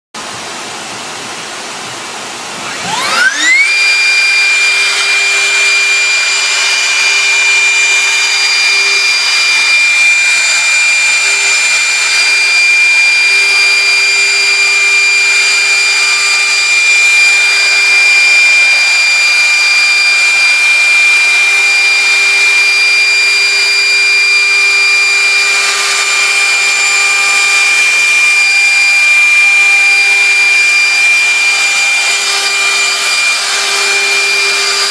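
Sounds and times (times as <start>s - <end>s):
router spindle high whine: 0.2s - 34.9s.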